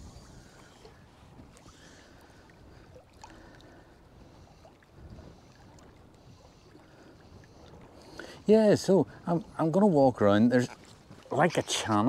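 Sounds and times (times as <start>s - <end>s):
low wind rumble: 0.0s - 12.0s
ripples lapping on rocky shore: 1.2s - 12.0s.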